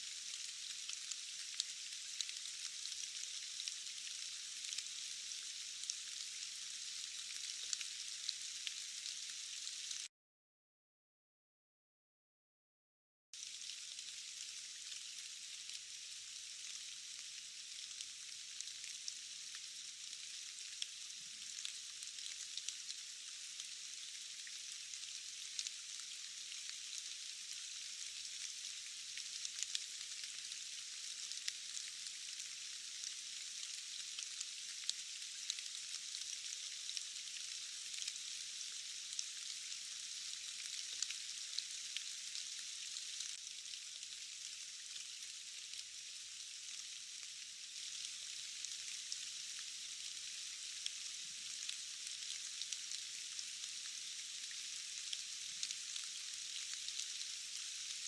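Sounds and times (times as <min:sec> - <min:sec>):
steady rain hiss: 0:00.0 - 0:10.1, 0:13.4 - 0:58.0.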